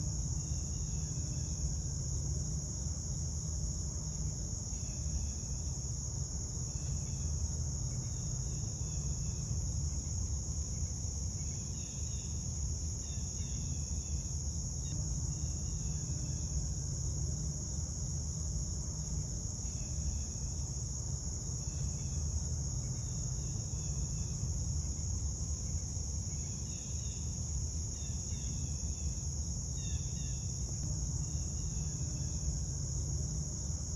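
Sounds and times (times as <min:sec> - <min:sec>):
insect chorus trilling: 0:00.0 - 0:33.9.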